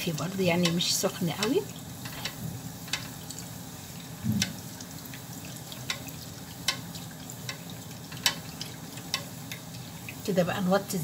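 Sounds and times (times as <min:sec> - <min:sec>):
oil dripping: 0:00.0 - 0:10.3
dough sizzling in oil: 0:00.0 - 0:11.0.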